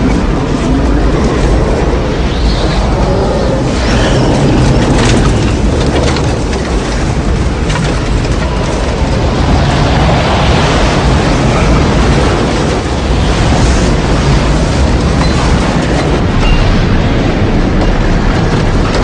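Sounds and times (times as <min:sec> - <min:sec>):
deep rumble and rushing wind: 0:00.0 - 0:19.0.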